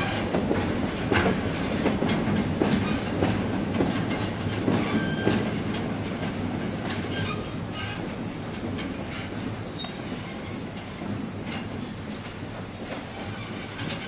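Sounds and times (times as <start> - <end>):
cicadas chorus: 0.0 - 14.0
freight train wagons clanking: 0.0 - 14.0.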